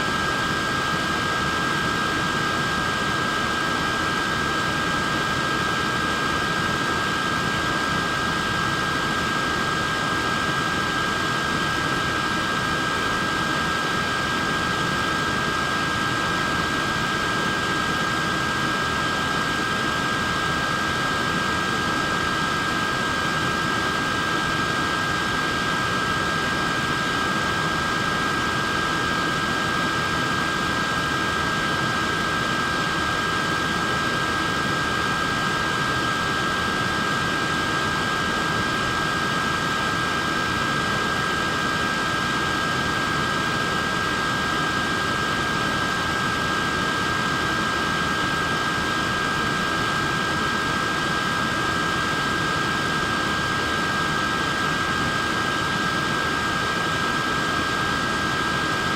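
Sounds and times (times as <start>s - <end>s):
high-pitched motor whine: 0.0s - 58.9s.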